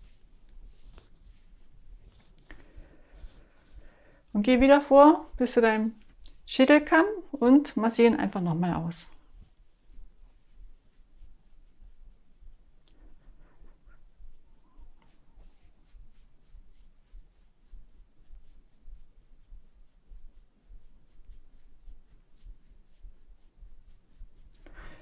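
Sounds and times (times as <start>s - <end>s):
fingertips rubbing hair: 0.0s - 25.0s.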